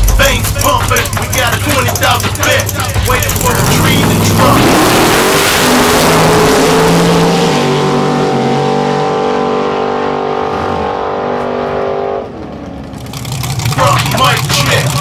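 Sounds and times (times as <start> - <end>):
drag race cars accelerating: 0.0 - 15.0.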